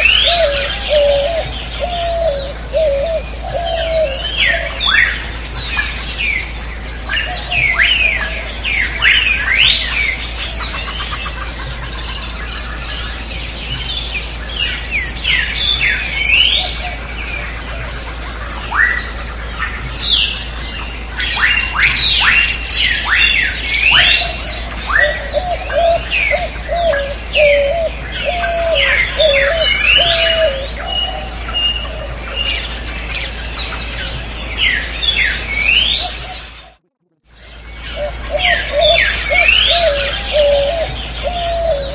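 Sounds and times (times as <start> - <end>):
warbling lower bird call: 0.0 - 6.5, 7.1 - 36.8, 37.7 - 41.9
birds chirping and whistling: 0.0 - 41.9
steady low hum: 0.0 - 41.9.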